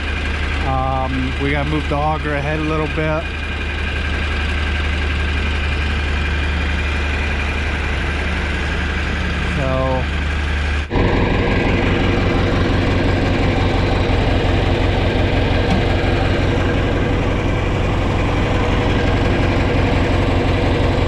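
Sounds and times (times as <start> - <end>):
diesel engine fast idle: 0.0 - 21.0.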